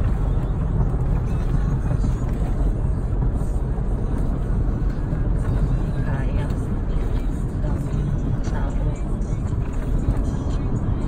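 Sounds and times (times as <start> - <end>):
car exhaust low rumble: 0.0 - 11.0.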